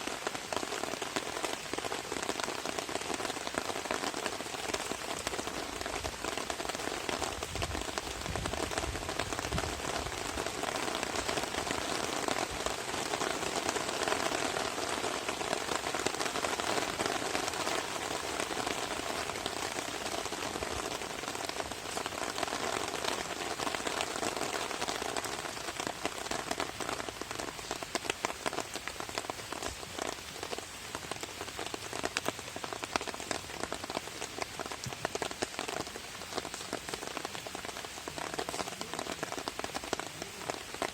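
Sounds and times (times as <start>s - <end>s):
heavy single raindrops: 0.0s - 40.9s
rain drumming on a tarp: 0.0s - 40.9s.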